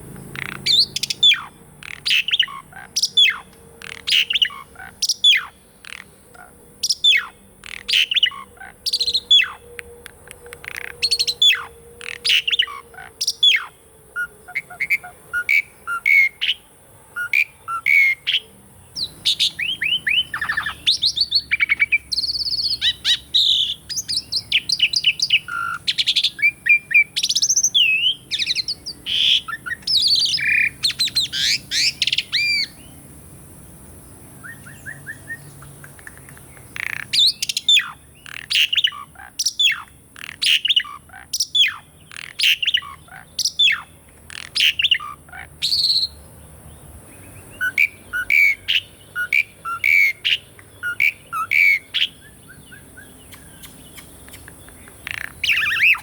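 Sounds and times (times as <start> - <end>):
starling singing: 0.0 - 33.0, 34.4 - 46.2, 47.2 - 56.0.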